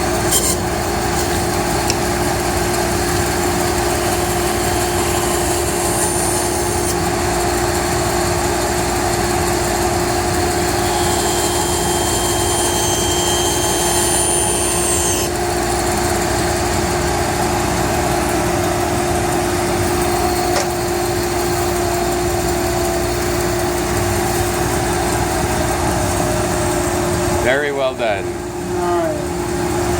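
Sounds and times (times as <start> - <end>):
band saw humming: 0.0 - 29.9.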